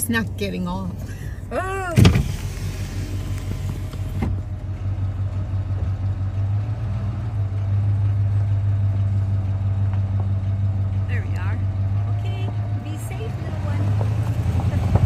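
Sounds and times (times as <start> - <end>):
truck engine humming: 0.0 - 15.0.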